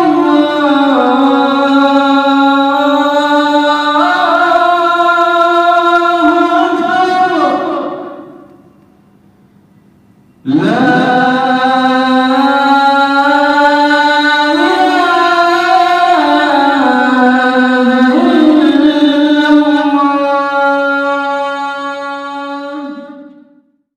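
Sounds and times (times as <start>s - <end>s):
man chanting call to prayer: 0.0s - 8.6s, 10.4s - 23.7s.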